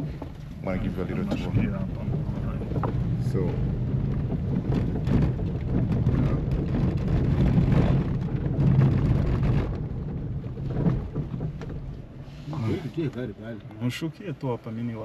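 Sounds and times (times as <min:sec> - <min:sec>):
wind buffeting microphone: 0:00.0 - 0:13.7
vehicle rumbling and rattling: 0:00.0 - 0:15.0.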